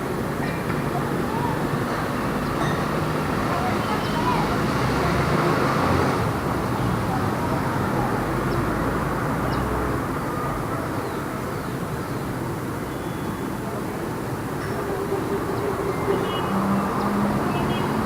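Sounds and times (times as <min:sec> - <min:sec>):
passing cars rumbling: 0:00.1 - 0:12.8, 0:13.5 - 0:18.0.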